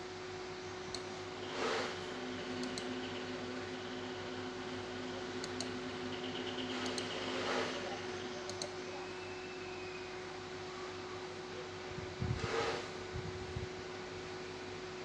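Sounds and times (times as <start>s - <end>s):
computer hum and fan noise: 0.0s - 15.0s.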